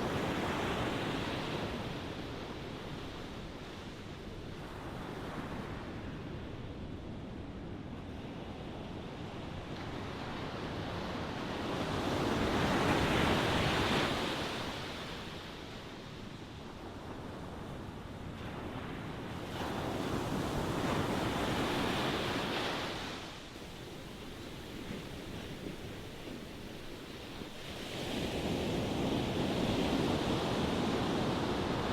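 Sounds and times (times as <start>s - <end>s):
ocean waves breaking on shore: 0.0s - 31.9s.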